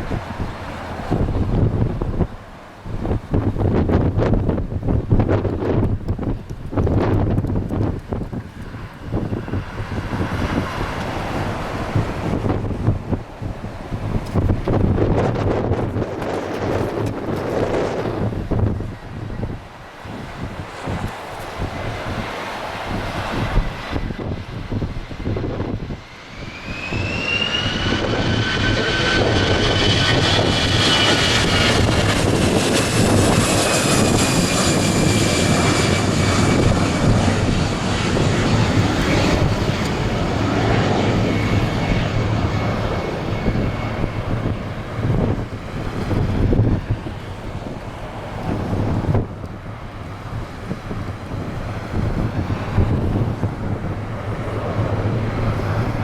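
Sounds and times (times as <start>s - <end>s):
jet airliner flying past: 0.0s - 56.0s.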